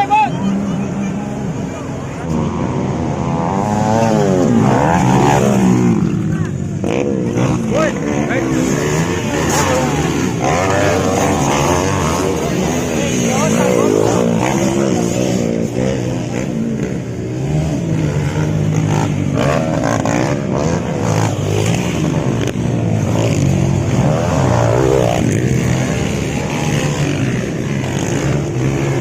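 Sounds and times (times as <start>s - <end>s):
motocross bike engines revving: 0.0s - 29.0s.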